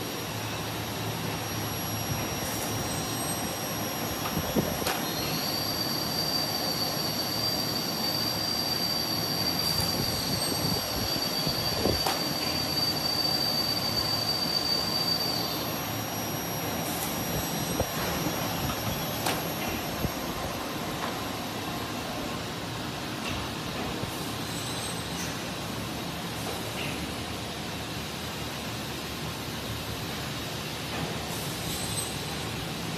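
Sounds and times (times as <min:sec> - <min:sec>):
high-pitched whine: 0:00.0 - 0:32.9
machine motors and rollers running: 0:00.0 - 0:32.9.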